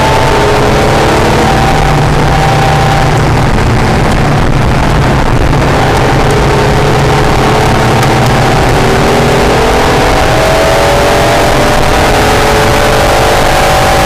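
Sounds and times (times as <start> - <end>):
car engine accelerating: 0.0 - 14.0
loud rushing noise: 0.0 - 14.0.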